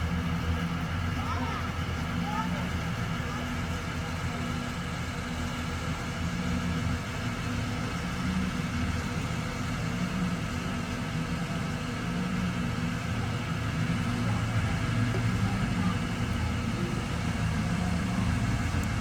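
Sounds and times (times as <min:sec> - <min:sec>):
large engine idling: 0:00.0 - 0:19.0.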